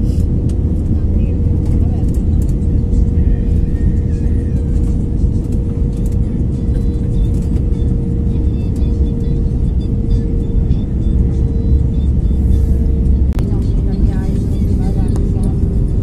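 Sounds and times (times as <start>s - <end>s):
airliner cabin engine roar: 0.0s - 16.0s
constant droning hum: 0.0s - 16.0s.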